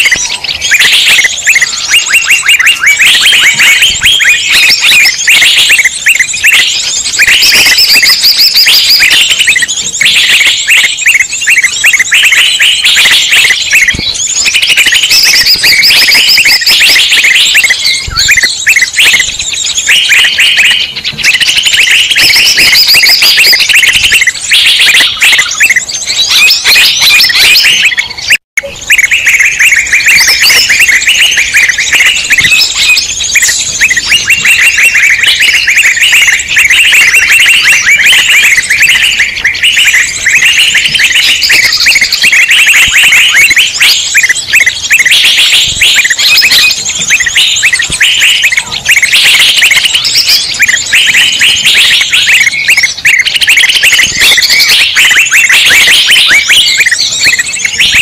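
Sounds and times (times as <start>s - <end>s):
many small birds chirping: 0.0s - 58.0s.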